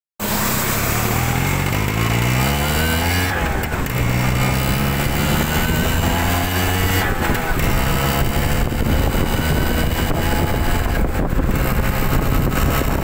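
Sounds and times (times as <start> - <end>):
two-stroke motorcycle engine revving: 0.2 - 13.0.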